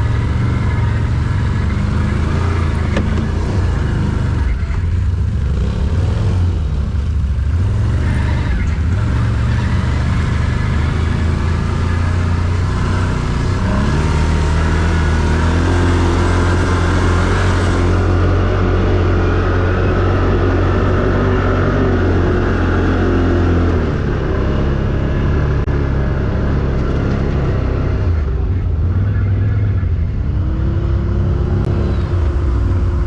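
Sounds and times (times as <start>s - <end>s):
quad bike engine running: 0.0s - 33.0s.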